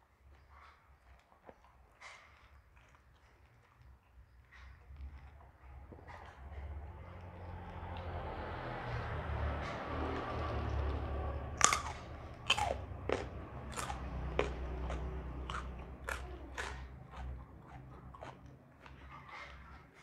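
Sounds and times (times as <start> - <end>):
crunchy chewing: 0.2 - 20.0.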